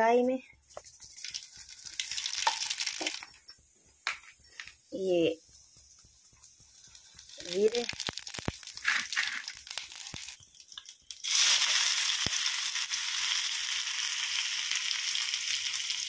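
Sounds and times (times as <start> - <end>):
onion sizzling in oil: 0.0 - 16.0
seeds crackling in hot oil: 0.0 - 16.0.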